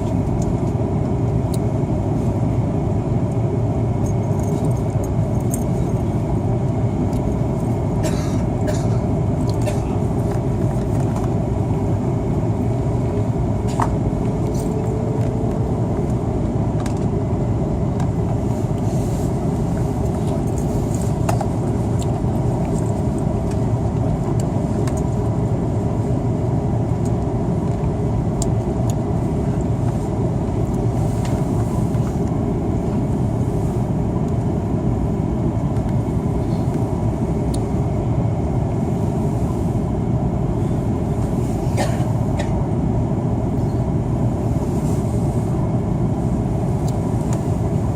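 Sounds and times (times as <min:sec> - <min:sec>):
airplane cabin airflow rush: 0:00.0 - 0:47.9
jet engine drone: 0:00.0 - 0:47.9.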